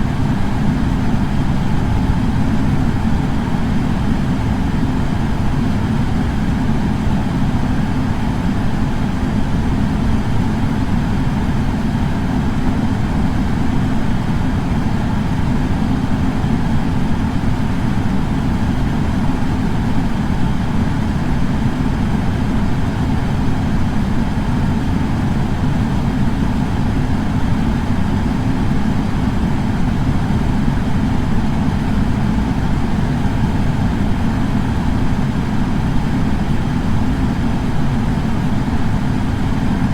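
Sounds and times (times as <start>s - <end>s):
air purifier fan humming: 0.0s - 39.9s.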